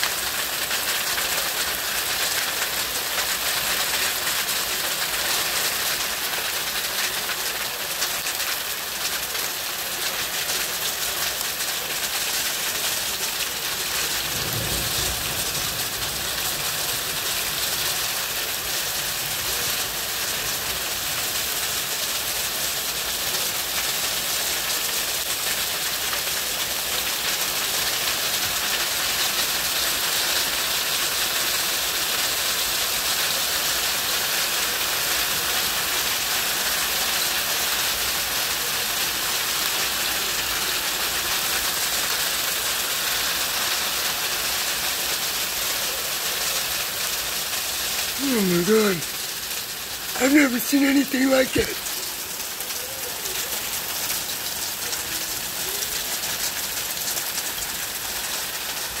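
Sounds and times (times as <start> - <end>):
hail pelting wooden deck and roof: 0.0 - 59.0.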